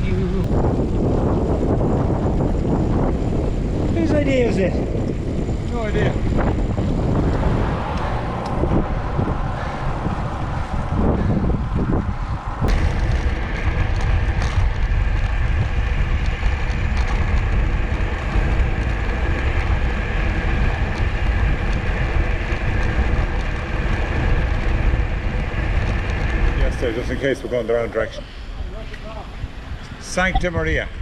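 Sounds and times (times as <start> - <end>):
engine drone with held tones: 0.0 - 31.0
wind rumbling on microphone: 0.0 - 31.0.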